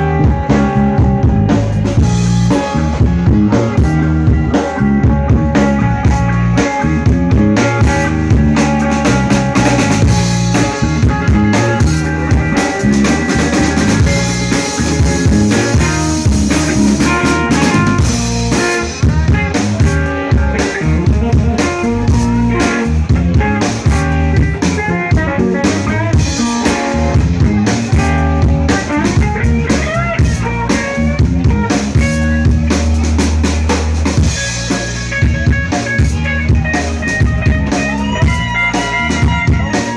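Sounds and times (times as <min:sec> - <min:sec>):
drum kit beat: 0:00.0 - 0:39.9
electric guitar: 0:00.0 - 0:39.9.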